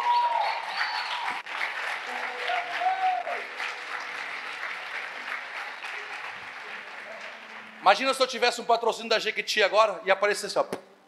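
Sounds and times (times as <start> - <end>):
congregation applauding: 0.0 - 9.0.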